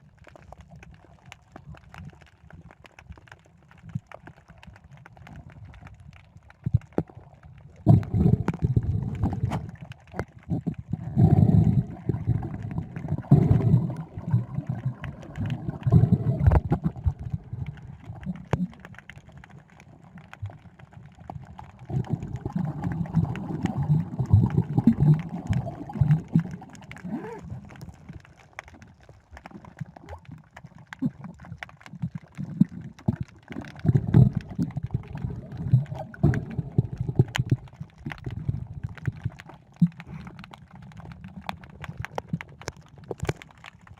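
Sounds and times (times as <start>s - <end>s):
muffled water sloshing and gurgling: 0.0s - 43.9s.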